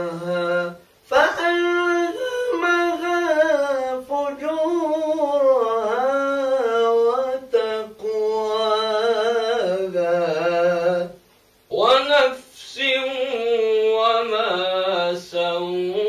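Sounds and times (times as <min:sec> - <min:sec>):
man reciting in sung style: 0:00.0 - 0:16.0.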